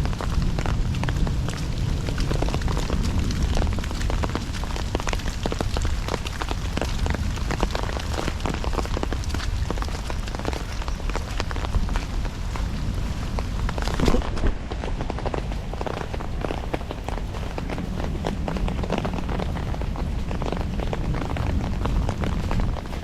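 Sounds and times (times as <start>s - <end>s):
heavy rain drops crackling: 0.0s - 23.0s
low rumble: 0.0s - 23.0s.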